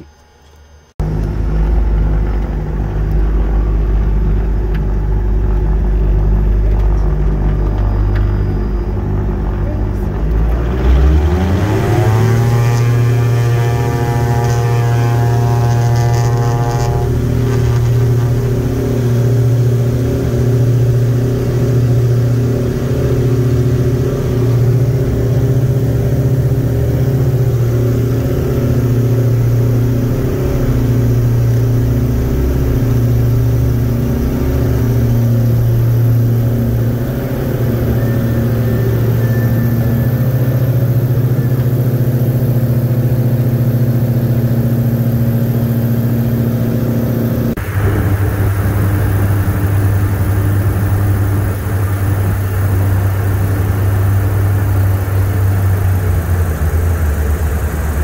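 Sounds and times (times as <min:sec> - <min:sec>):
high engine whine: 0:00.0 - 0:58.0
twin aircraft engines drone: 0:00.0 - 0:58.0.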